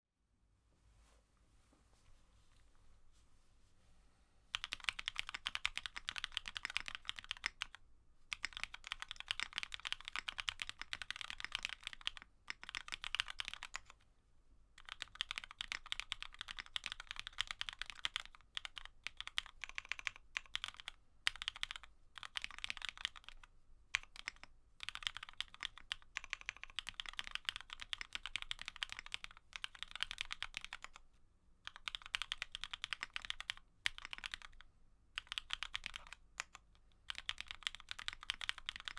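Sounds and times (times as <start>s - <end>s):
mechanical keyboard typing: 4.5s - 14.0s, 14.8s - 31.0s, 31.7s - 38.9s.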